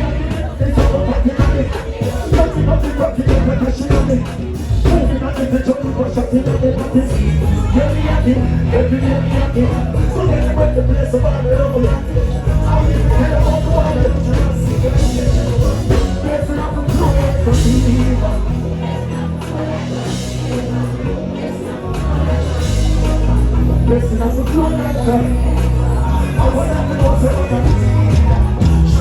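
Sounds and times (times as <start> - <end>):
dancehall music over sound system: 0.0 - 29.0
heavy bass riddim: 0.0 - 29.0
vocals over music: 0.0 - 29.0.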